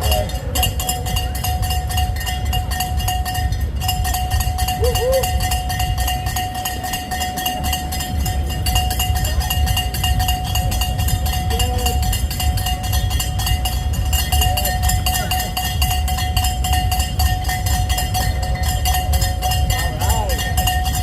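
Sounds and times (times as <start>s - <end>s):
cowbells ringing rapidly: 0.0s - 21.0s.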